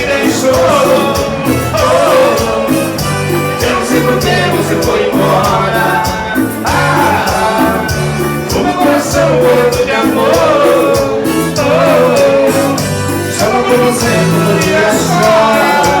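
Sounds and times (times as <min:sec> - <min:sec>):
repeating bass line: 0:00.0 - 0:16.0.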